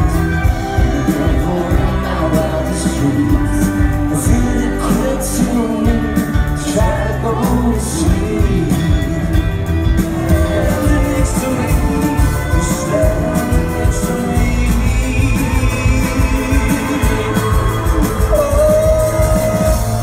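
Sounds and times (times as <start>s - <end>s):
lead vocal singing: 0.0s - 20.0s
live rock band: 0.0s - 20.0s.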